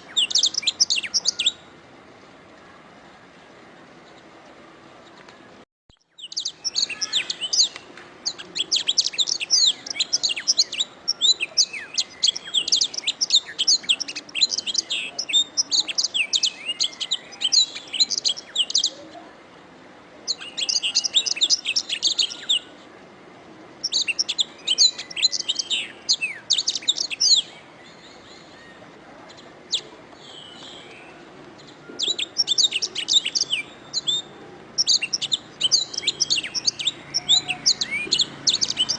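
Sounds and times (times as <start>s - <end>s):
canary singing trills: 0.0s - 1.7s, 6.0s - 19.1s, 20.3s - 22.8s, 23.8s - 38.9s
faint steady hiss: 0.0s - 38.9s.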